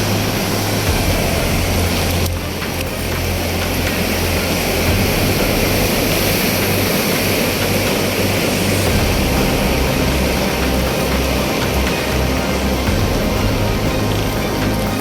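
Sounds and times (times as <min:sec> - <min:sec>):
flooding river roaring: 0:00.0 - 0:15.0
low rumble: 0:00.0 - 0:15.0.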